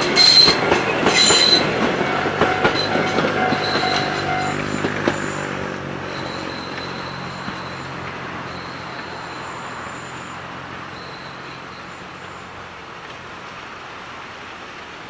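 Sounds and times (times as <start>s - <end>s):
train wheel squeals: 0.0s - 12.6s
train low rumble: 0.0s - 14.9s.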